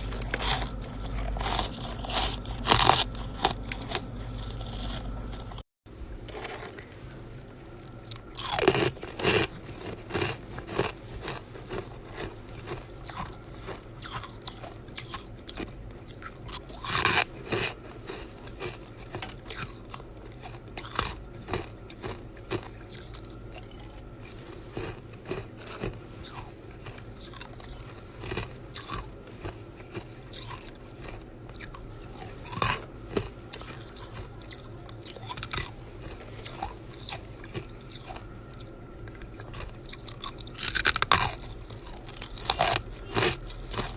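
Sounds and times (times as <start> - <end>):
ice being chewed: 0.0 - 5.6, 6.2 - 43.9.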